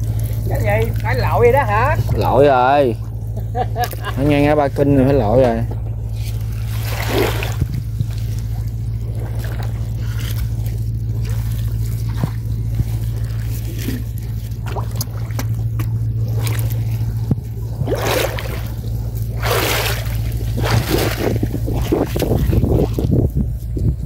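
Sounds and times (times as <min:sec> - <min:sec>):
steady low hum: 0:00.0 - 0:24.0
water sloshing and splashing: 0:00.0 - 0:24.0.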